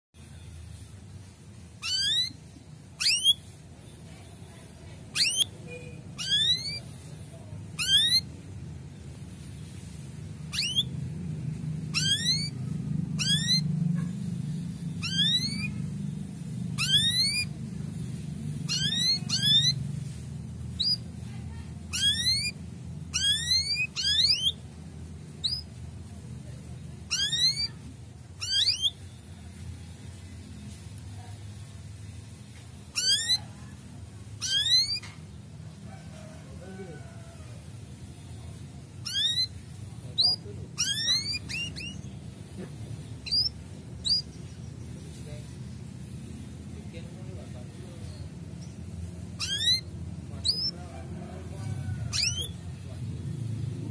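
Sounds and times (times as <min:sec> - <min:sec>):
canary chirping: 0:00.2 - 0:53.7
low steady background rumble: 0:00.2 - 0:53.9.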